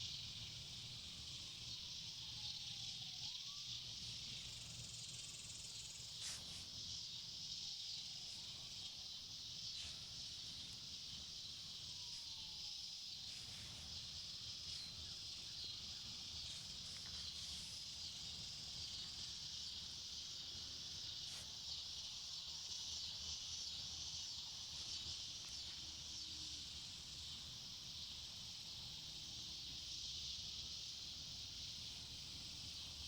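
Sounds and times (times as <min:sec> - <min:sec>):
insect chorus droning: 0:00.0 - 0:33.0.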